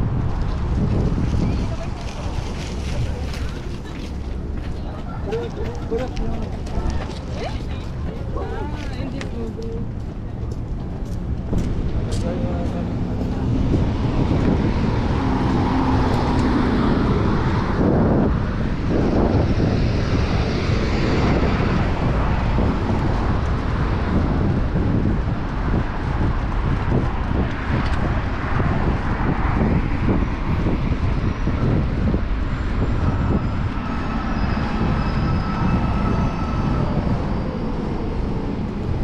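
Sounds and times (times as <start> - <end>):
city traffic noise: 0.0 - 39.0
passing vehicle engine hum: 0.0 - 39.0
wind rushing over microphone: 0.0 - 39.0.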